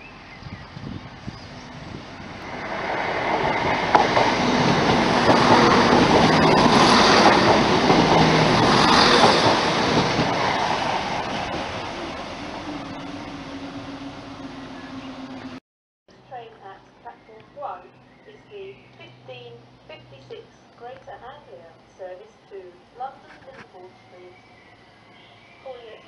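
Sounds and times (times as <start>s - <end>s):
passenger train passing: 0.0s - 15.6s, 16.5s - 26.0s.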